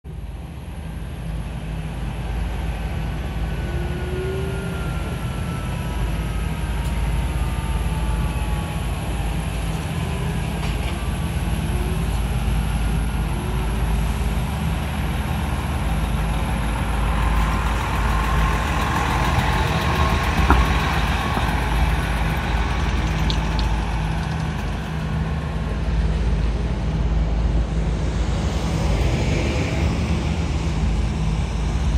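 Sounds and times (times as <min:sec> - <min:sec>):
truck diesel engines running: 0:00.1 - 0:31.9.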